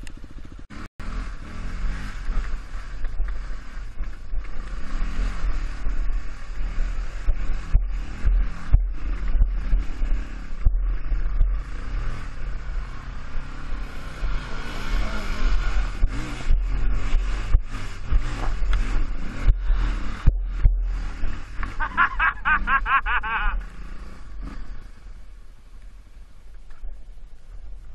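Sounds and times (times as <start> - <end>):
dirt bike engine revving: 0.1 - 25.4.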